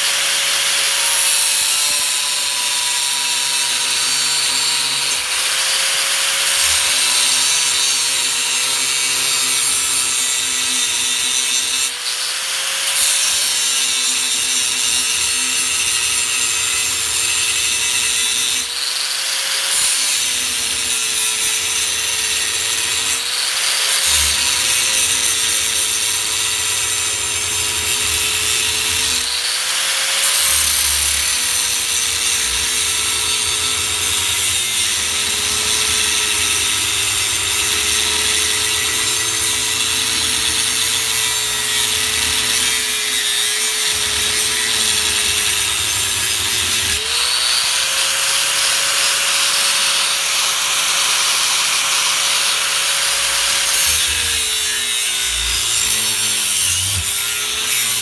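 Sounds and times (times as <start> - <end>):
angle grinder cutting steel: 0.0 - 58.0.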